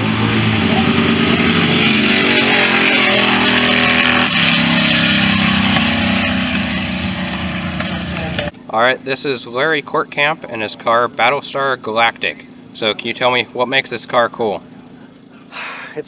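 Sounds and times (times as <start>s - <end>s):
drag car engines at full throttle: 0.0s - 16.0s.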